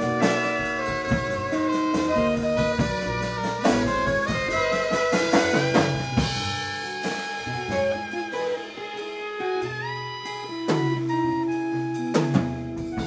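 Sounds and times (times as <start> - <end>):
drum hits: 0.0 - 11.5
saxophone melody: 0.0 - 13.0
small jazz band playing: 0.0 - 13.0.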